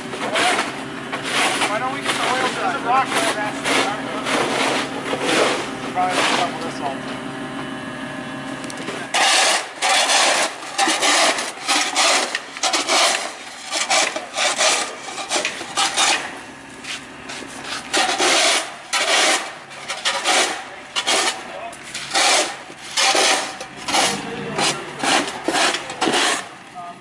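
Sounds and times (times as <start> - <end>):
forklift engine running: 0.0 - 27.0
snow shovel scraping pavement: 1.2 - 6.6, 9.1 - 21.4, 22.0 - 26.6.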